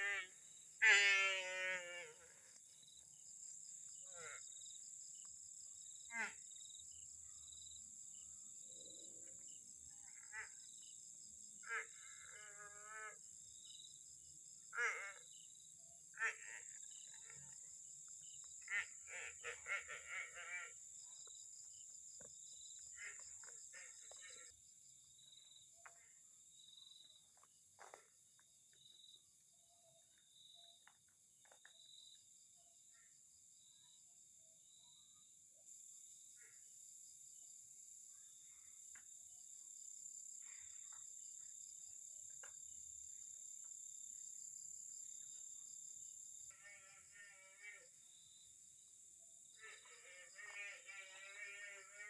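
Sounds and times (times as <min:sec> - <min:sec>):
insect chirping: 0:00.1 - 0:27.6, 0:28.2 - 0:52.0.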